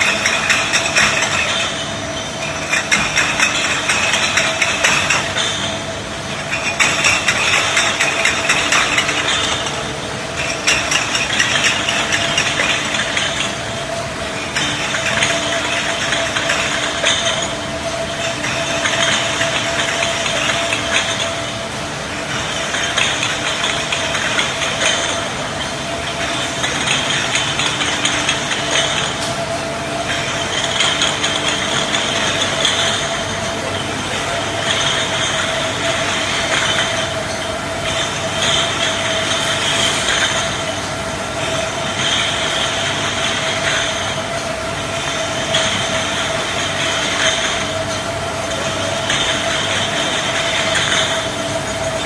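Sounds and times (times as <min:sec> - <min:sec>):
bottle washing machine running: 0:00.0 - 0:52.0.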